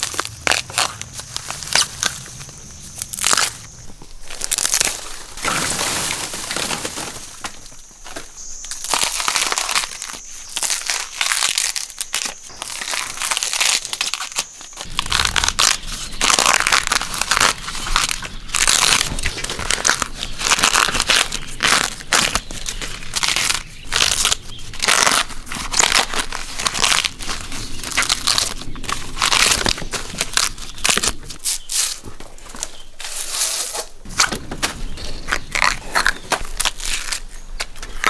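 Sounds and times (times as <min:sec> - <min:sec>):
bamboo shoots snapping and cracking: 0:00.0 - 0:38.0
sheaths tearing off bamboo: 0:00.0 - 0:38.0.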